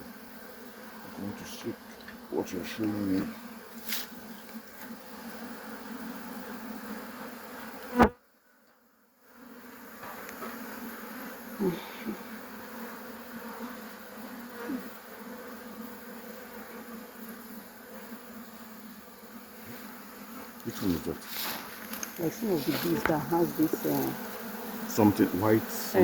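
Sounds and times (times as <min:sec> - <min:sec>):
bees buzzing: 0:00.0 - 0:08.2, 0:09.3 - 0:26.0.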